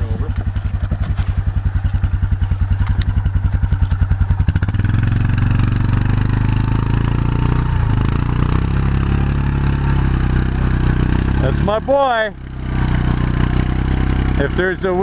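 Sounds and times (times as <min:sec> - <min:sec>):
atv engine idling and revving: 0:00.0 - 0:15.0.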